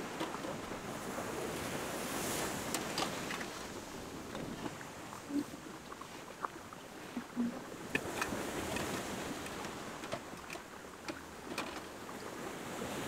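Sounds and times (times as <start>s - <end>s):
surf washing onto beach: 0.0s - 6.2s, 7.0s - 13.0s.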